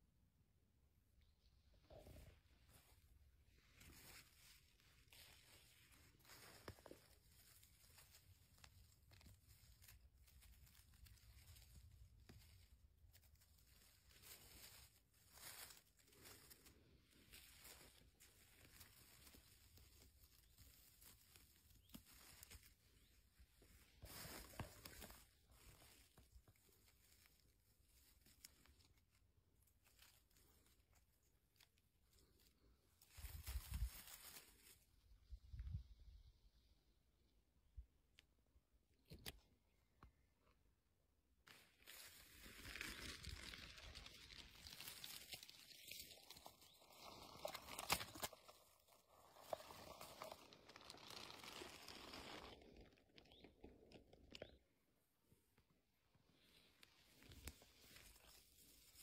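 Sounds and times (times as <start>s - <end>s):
rustling and crackling of plants: 1.0s - 36.6s, 41.4s - 59.0s.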